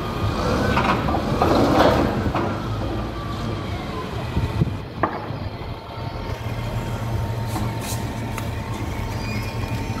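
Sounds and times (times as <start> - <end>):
heavy diesel engine droning: 0.0 - 10.0
road construction noise: 0.0 - 10.0
traffic noise: 0.0 - 10.0.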